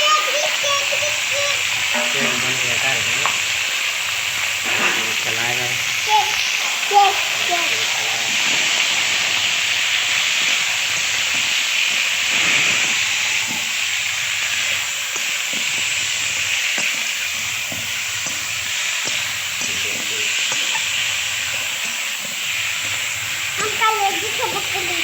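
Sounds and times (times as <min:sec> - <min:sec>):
meat sizzling in hot oil: 0:00.0 - 0:25.0
spoon scraping and knocking pan: 0:01.6 - 0:07.2, 0:08.3 - 0:24.8.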